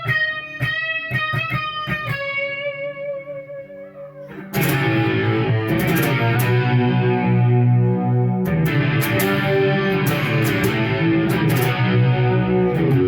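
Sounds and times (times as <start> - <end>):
distorted electric guitar chords: 0.0 - 13.0
electric guitar picked notes: 0.0 - 13.0.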